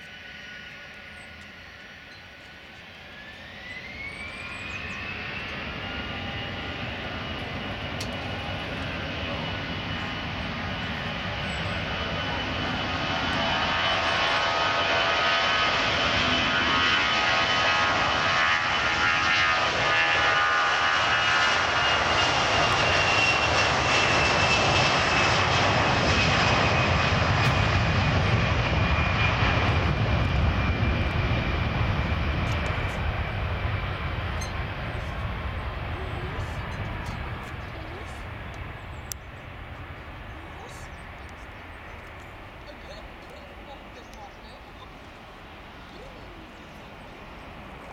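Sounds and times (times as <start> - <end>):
jet engine high whine: 0.0 - 47.9
jet engine roar: 0.0 - 47.9.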